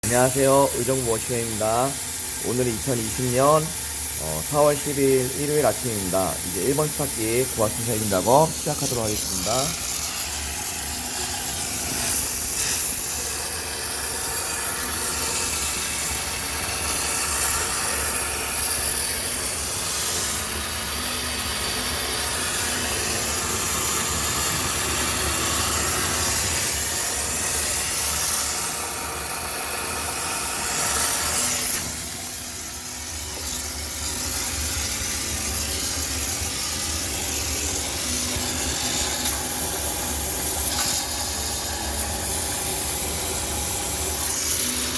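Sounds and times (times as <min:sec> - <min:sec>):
steam hissing: 0:00.0 - 0:44.9.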